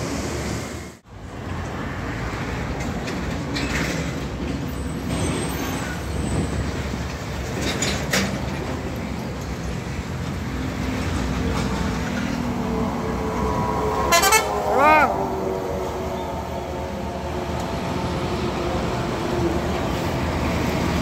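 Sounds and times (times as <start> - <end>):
diesel truck engine: 0.0 - 21.0
low rumble of road traffic: 0.0 - 21.0.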